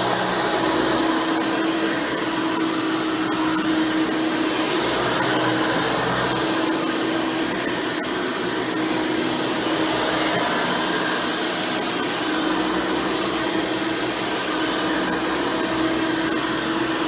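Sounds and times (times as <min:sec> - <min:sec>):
upright vacuum cleaner whining: 0:00.0 - 0:17.0.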